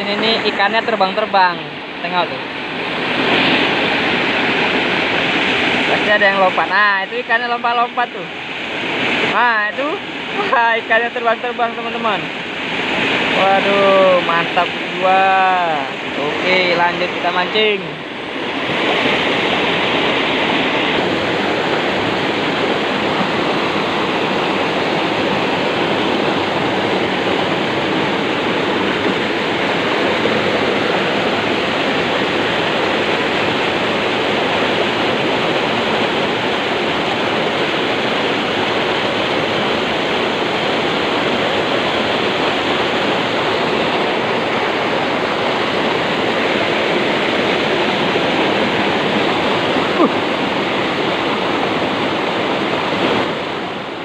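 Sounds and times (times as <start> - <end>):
water rushing over a weir: 0.0 - 54.0.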